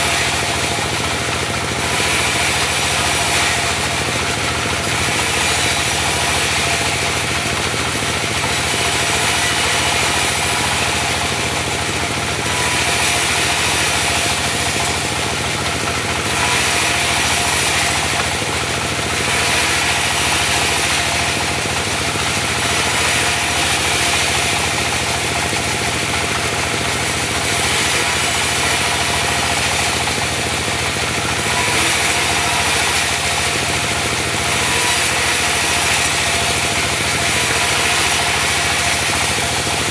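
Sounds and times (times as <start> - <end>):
band saw cutting wood: 0.0 - 39.9
diesel engine running: 0.0 - 39.9.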